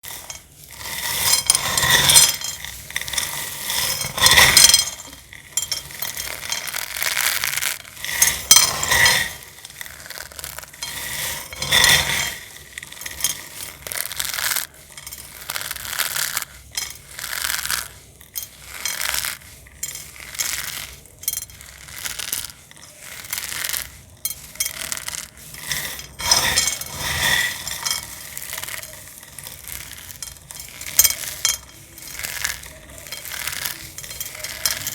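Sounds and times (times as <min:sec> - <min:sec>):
dried cornstarch film crackling: 0:00.0 - 0:34.9.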